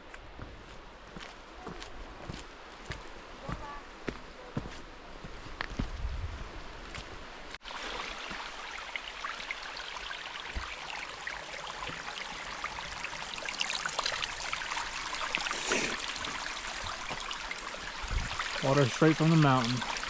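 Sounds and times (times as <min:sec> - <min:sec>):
stream water running: 0:00.1 - 0:20.0.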